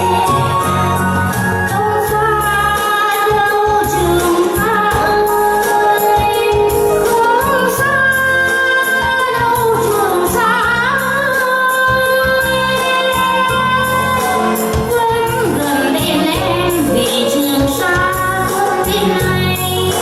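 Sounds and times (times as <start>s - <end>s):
instrumental accompaniment: 0.0s - 20.0s
woman singing: 0.0s - 20.0s.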